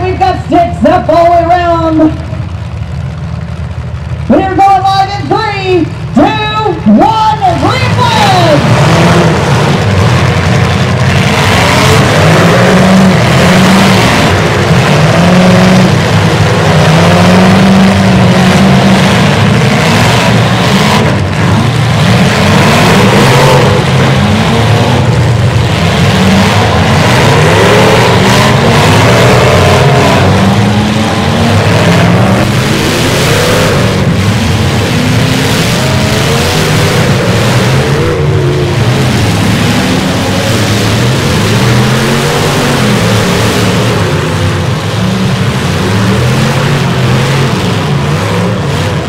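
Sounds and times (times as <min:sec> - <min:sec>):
truck engines revving: 0:00.0 - 0:49.0.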